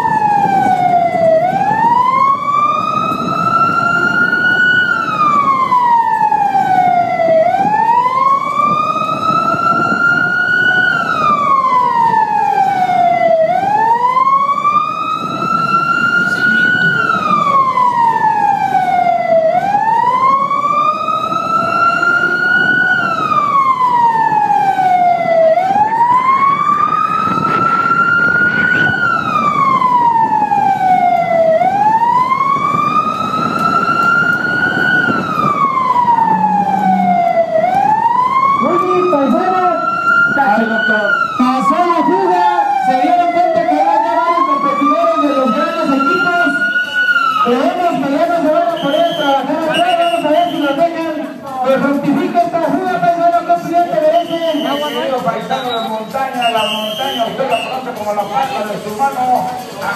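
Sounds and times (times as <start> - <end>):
moving vehicle rumble: 0.0 - 59.9
vehicle siren wailing: 0.0 - 59.9.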